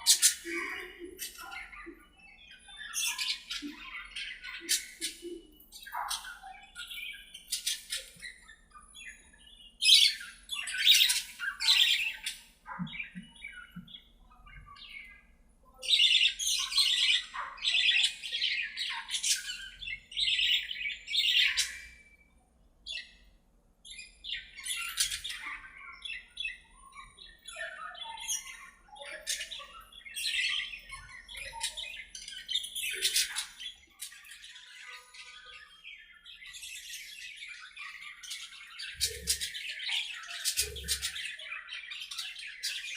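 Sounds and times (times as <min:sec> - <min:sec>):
budgerigars chattering and squawking: 0:00.0 - 0:23.3, 0:23.9 - 0:42.9.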